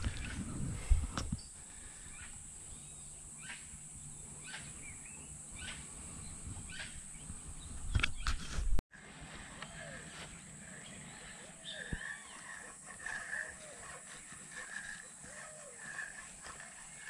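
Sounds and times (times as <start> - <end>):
outdoor background noise: 0.0 - 17.0
bird calling: 1.3 - 8.4, 9.4 - 17.0.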